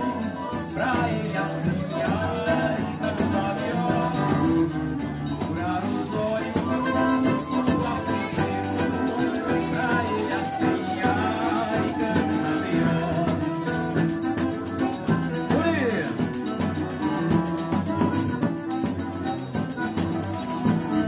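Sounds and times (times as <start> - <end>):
flute melody: 0.0 - 21.0
hand shaker beat: 0.0 - 21.0
strummed acoustic guitar: 0.0 - 21.0.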